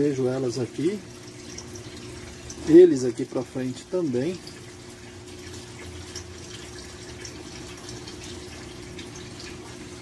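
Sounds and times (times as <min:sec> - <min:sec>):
water trickling and dripping: 0:00.0 - 0:10.0.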